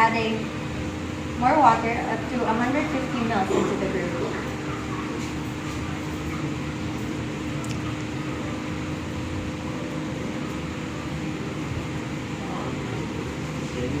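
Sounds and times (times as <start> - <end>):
mechanical hum with faint hiss: 0.0 - 14.0.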